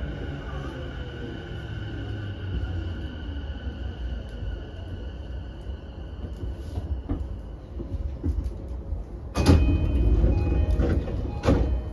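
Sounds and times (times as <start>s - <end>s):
train doors opening with rush: 0.0s - 11.9s
train interior rumble: 0.0s - 11.9s.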